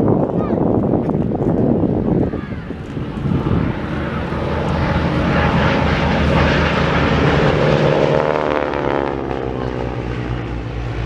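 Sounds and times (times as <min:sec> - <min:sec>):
propeller aircraft flying past: 0:00.0 - 0:11.0.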